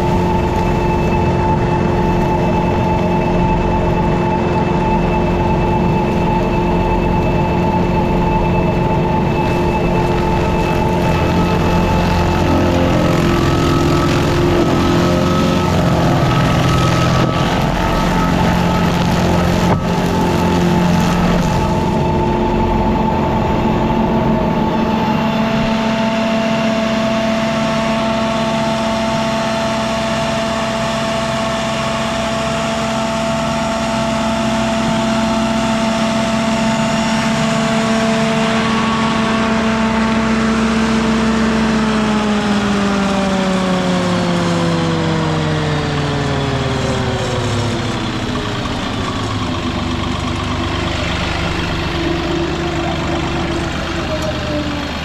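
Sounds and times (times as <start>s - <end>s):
stump grinder engine running: 0.0s - 55.0s.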